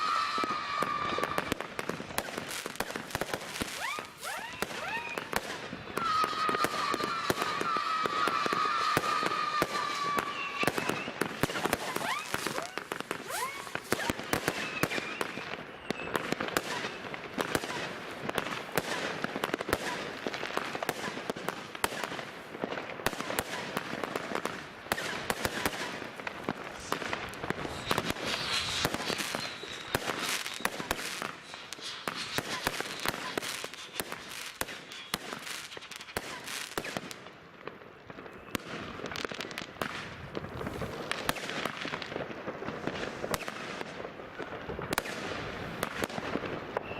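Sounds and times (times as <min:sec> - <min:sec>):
firework whistles: 0:00.0 - 0:22.3, 0:23.1 - 0:37.2, 0:38.1 - 0:42.0, 0:42.9 - 0:46.9
fireworks crackling and banging: 0:00.0 - 0:46.9.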